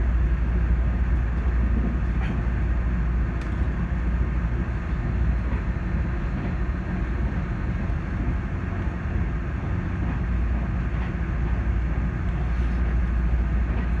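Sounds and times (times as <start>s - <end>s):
train car rumble: 0.0s - 14.0s.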